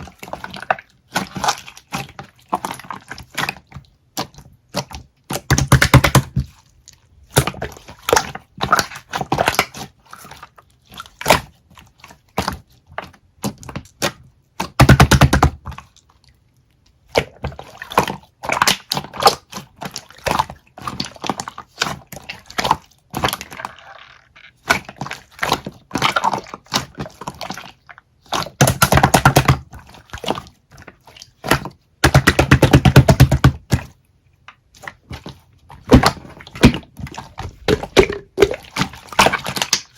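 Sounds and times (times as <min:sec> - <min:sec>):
slime squished by hand: 0:00.0 - 0:34.0, 0:34.6 - 0:39.9.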